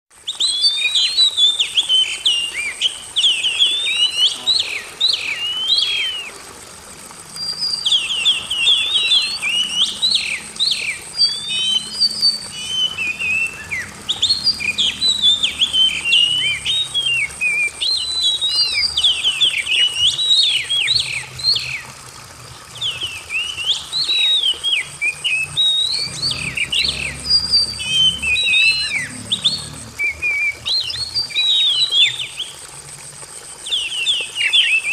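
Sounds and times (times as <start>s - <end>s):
bird singing whistled notes: 0.2s - 6.4s, 7.4s - 21.9s, 22.7s - 32.6s, 33.6s - 34.9s.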